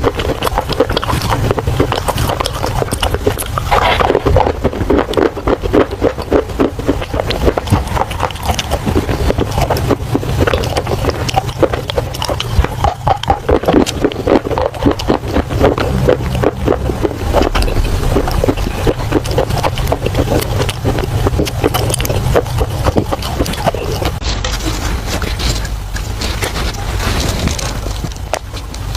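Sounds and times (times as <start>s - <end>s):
chewing clay with sharp crunches: 0.0s - 28.9s
steady low hum: 0.0s - 28.9s.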